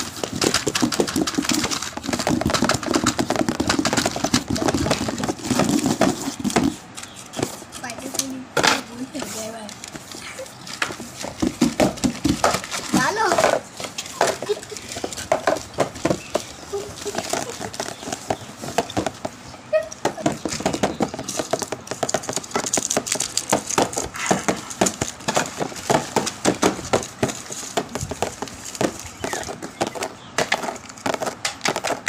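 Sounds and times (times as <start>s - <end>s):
paper bags rustling and crinkling: 0.0s - 8.0s, 8.8s - 32.0s.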